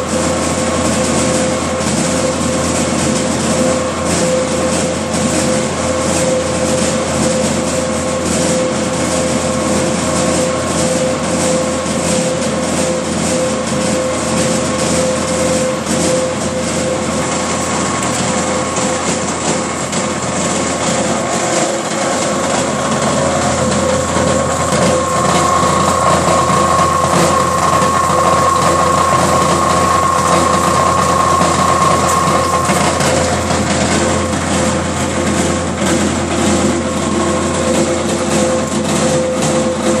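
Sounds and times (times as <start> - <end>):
grinder shredding cartons: 0.0 - 40.0
machine whine: 0.0 - 40.0.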